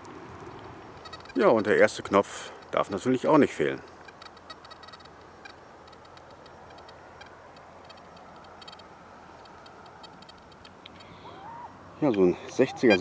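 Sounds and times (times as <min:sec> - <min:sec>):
faint irregular ticking and clicking: 0:00.4 - 0:11.2.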